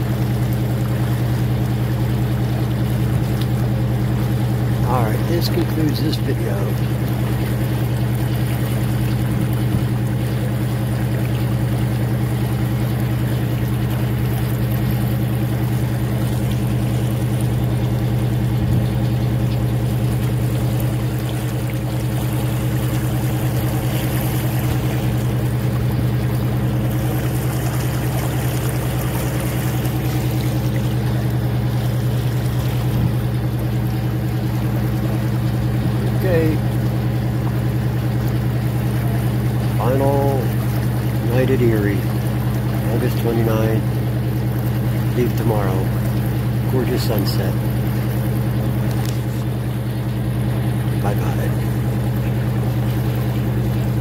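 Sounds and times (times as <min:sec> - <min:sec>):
boat engine droning: 0:00.0 - 0:54.0
water rushing along hull: 0:00.0 - 0:54.0.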